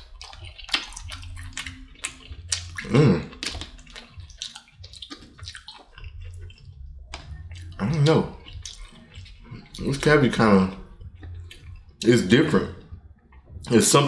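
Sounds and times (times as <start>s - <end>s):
wet chewing: 0.0s - 14.0s.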